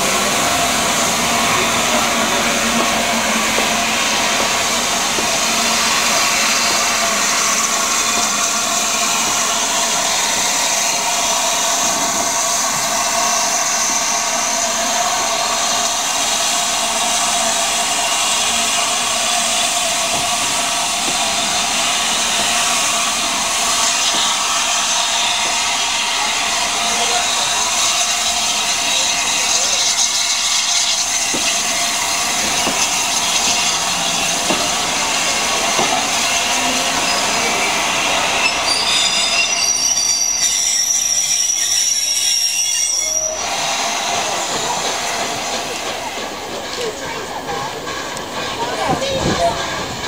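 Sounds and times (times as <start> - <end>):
steam locomotive hiss: 0.0 - 50.0
train wheels on rails: 0.0 - 50.0.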